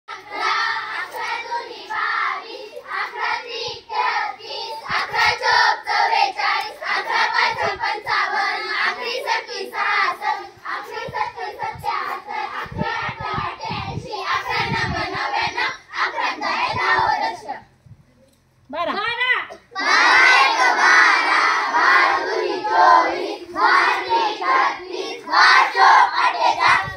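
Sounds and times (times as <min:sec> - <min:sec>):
children chanting in sing-song: 0:00.1 - 0:17.7, 0:19.7 - 0:26.9.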